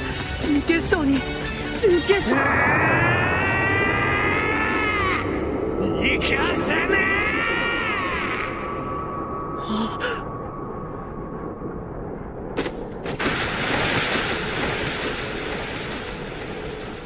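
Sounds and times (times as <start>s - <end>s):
low rumble: 2.3s - 17.0s.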